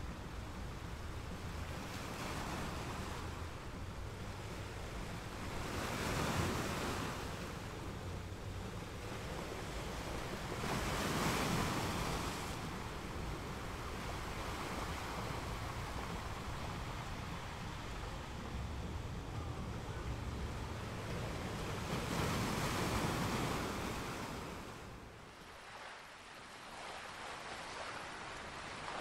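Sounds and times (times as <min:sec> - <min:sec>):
sea waves washing in: 0:00.0 - 0:29.0.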